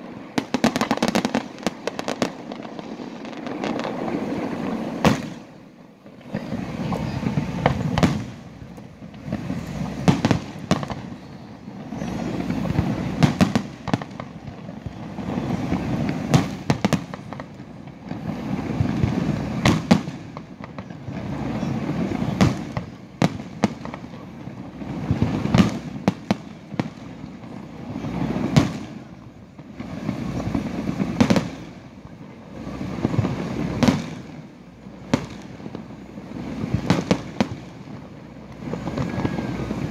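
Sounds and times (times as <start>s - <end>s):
fireworks sharp bangs: 0.0s - 39.9s.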